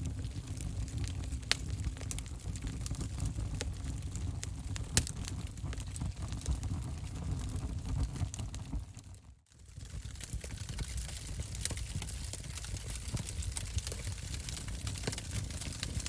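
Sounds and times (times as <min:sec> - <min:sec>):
fire crackles and pops: 0:00.0 - 0:16.0
wood fire rumbling: 0:00.0 - 0:16.0.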